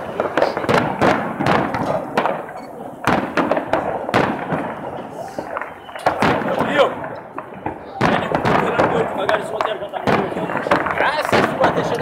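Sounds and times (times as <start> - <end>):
fireworks bangs and pops: 0.0 - 12.0
fireworks crackle: 0.0 - 12.0.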